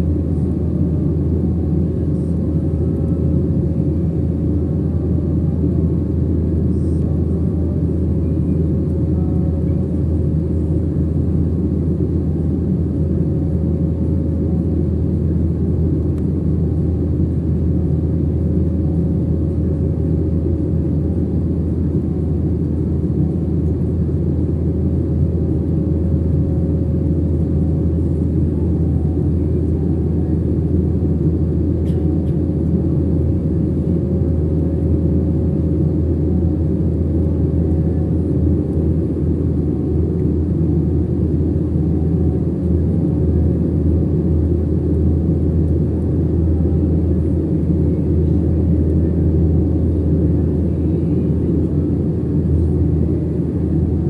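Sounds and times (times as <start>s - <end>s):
faint steady hum: 0.0s - 54.0s
jet cabin engine rumble: 0.0s - 54.0s.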